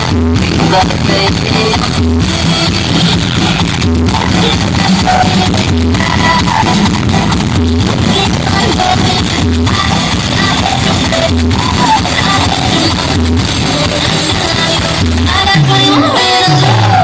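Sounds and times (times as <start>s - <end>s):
heavy bass note: 0.0s - 17.0s
loud music over sound system: 0.0s - 17.0s.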